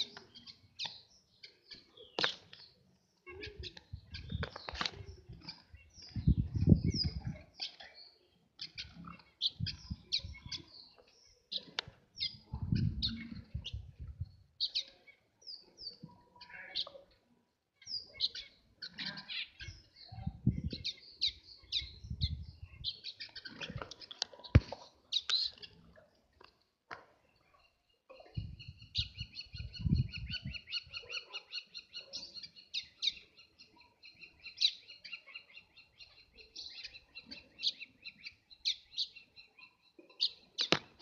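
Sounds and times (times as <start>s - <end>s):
finches chirping and twittering: 3.4s - 17.2s, 17.8s - 25.9s, 27.4s - 40.8s.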